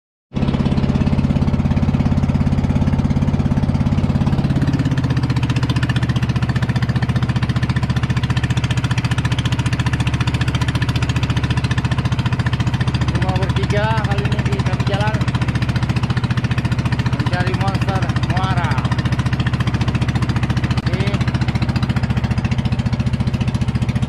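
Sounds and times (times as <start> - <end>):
engine chugging: 0.3 - 24.0.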